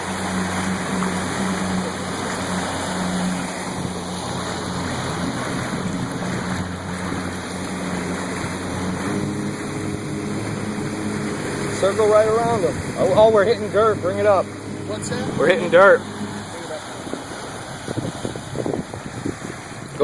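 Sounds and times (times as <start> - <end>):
motorboat engine running: 0.0 - 20.0
water rushing and spraying: 0.0 - 20.0.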